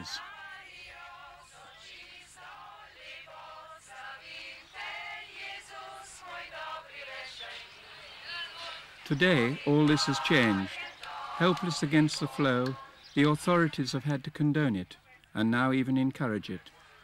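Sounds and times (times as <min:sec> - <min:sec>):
group singing without instruments: 0:00.0 - 0:14.2.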